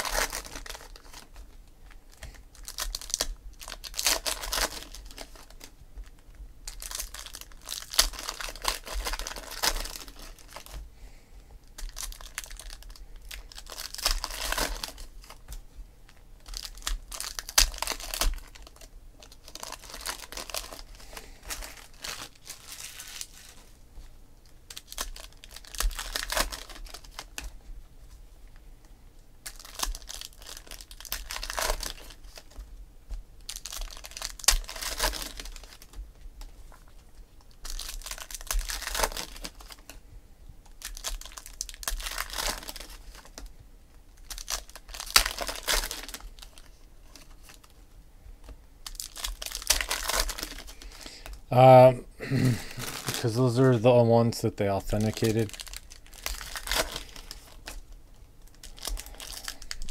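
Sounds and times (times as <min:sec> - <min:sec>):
foil wrappers tearing and crinkling: 0:00.0 - 0:01.5, 0:02.1 - 0:10.8, 0:11.7 - 0:15.5, 0:16.1 - 0:23.7, 0:24.7 - 0:27.6, 0:29.4 - 0:32.7, 0:33.4 - 0:36.0, 0:36.7 - 0:40.0, 0:40.7 - 0:43.5, 0:44.2 - 0:47.7, 0:48.8 - 0:51.4, 0:52.2 - 0:59.9.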